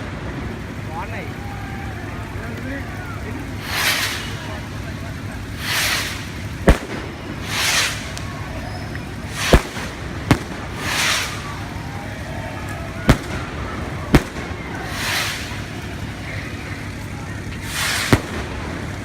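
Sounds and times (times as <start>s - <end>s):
fireworks bangs: 0.0s - 19.0s
fireworks hissing rushes: 0.0s - 19.0s.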